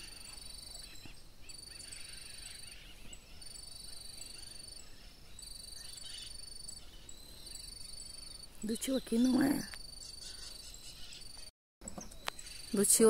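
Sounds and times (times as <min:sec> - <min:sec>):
insects trilling: 0:00.0 - 0:11.5, 0:12.2 - 0:13.0.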